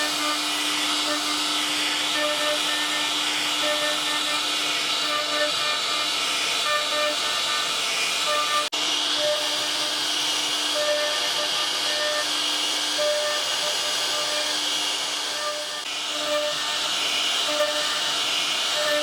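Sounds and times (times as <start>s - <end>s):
humming tone: 0.0s - 14.6s, 15.2s - 19.0s
hissing machine noise: 0.0s - 19.0s.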